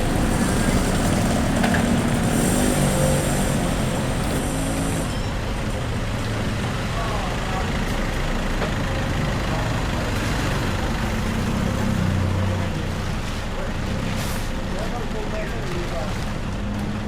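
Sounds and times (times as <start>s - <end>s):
street traffic: 0.0s - 17.0s
vehicle engine humming: 0.0s - 17.0s.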